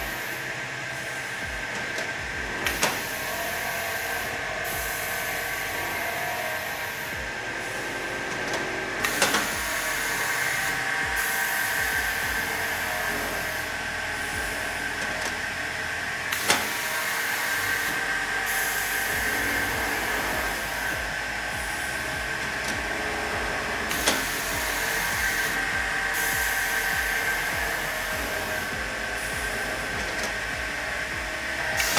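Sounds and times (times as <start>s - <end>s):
miter saw whining: 0.0s - 31.9s.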